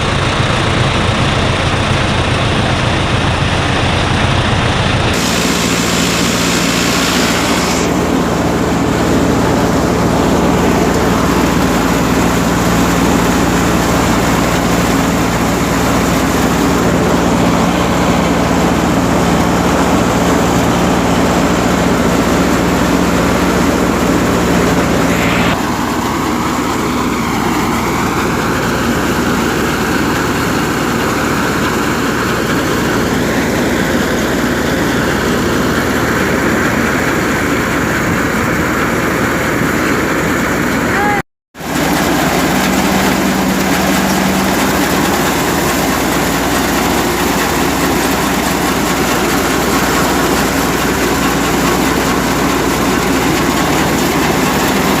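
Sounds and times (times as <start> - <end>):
wheat thresher running: 0.0 - 55.0.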